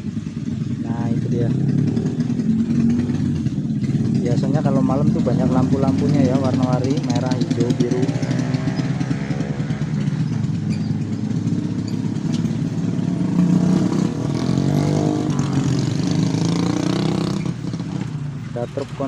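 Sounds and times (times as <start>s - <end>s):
tyre and road noise: 0.0s - 19.0s
vehicle engines passing: 0.0s - 19.0s.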